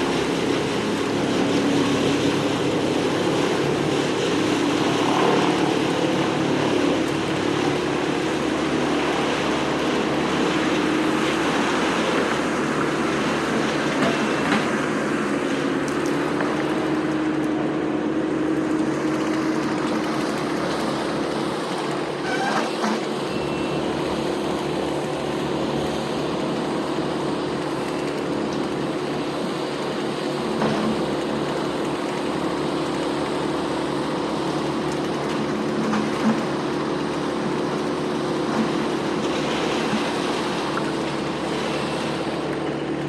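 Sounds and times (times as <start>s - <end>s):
heavy machinery engine droning: 0.0s - 43.0s.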